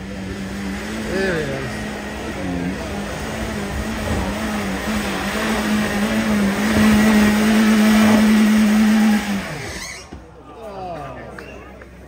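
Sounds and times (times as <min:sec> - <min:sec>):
car engine at high revs: 0:00.0 - 0:10.1.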